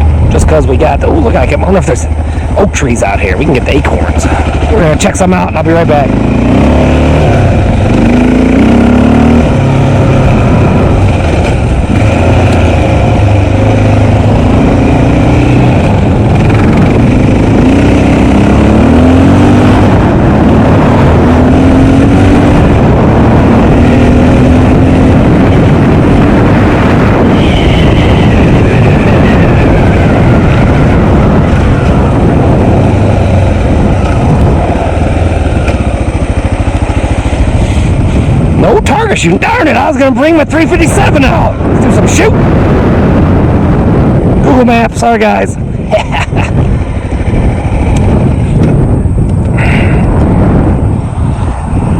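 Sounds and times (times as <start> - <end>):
wind noise rumble: 0.0 - 51.9
motorcycle engine revving: 1.0 - 51.9.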